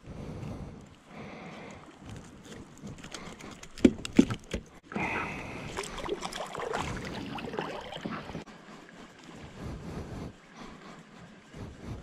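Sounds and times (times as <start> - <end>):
water splashing and sloshing: 1.0 - 11.8.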